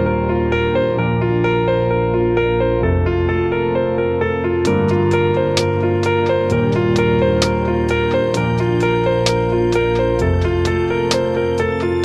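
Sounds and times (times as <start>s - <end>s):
soft piano background music: 0.0s - 12.0s.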